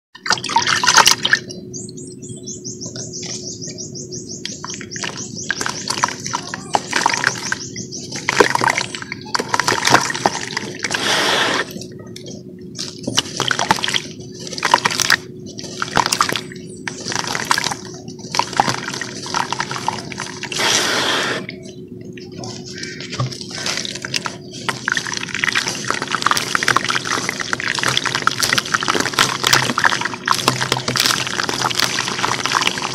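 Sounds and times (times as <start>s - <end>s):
hands sloshing water in a tub: 0.2s - 1.5s, 4.5s - 11.8s, 12.8s - 21.5s, 22.5s - 32.9s
steady low hum: 0.2s - 32.9s.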